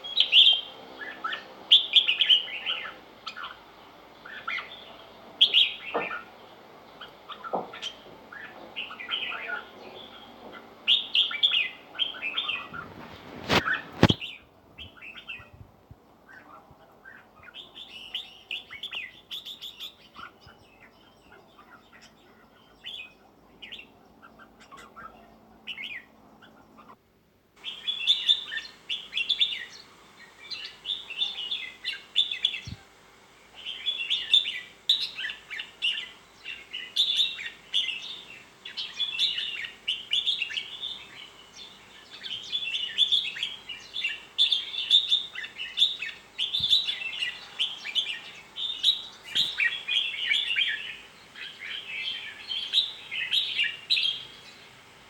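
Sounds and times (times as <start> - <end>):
birds singing in short phrases: 0.0 - 15.6, 16.2 - 27.0, 27.6 - 54.8.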